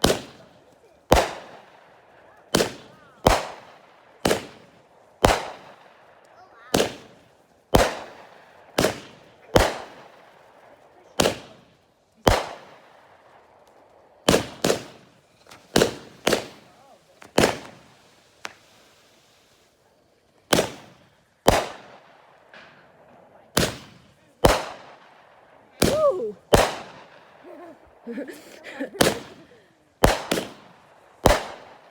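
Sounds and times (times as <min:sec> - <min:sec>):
fireworks sharp bangs echoing: 0:00.0 - 0:31.9.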